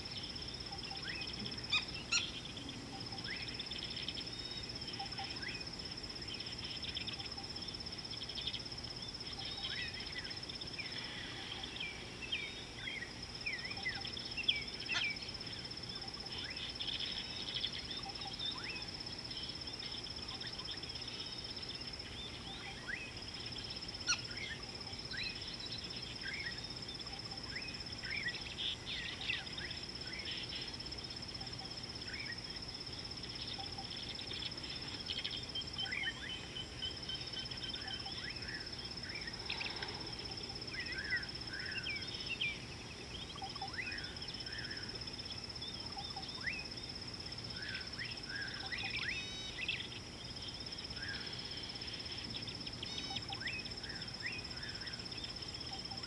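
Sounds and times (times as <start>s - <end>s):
bird calls and chirps: 0.0s - 32.5s, 33.3s - 46.9s, 47.5s - 56.0s.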